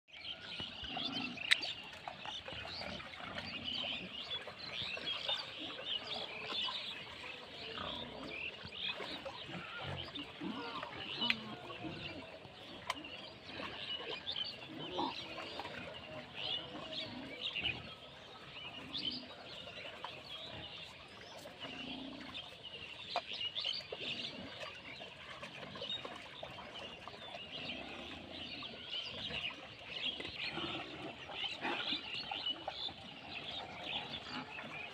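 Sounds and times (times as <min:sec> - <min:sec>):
birds chirping: 0:00.1 - 0:34.9
pigs wading in mud: 0:00.1 - 0:34.9
pigs grunting: 0:00.3 - 0:34.9.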